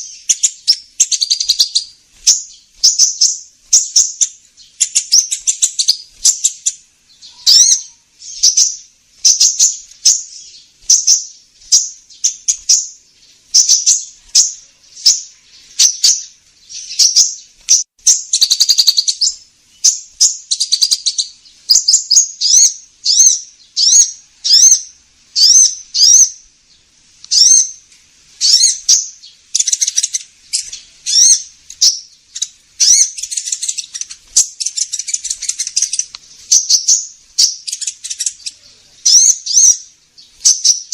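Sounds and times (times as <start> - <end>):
sunbird lure call chirping: 0.0 - 26.4, 27.3 - 27.8, 28.4 - 40.9.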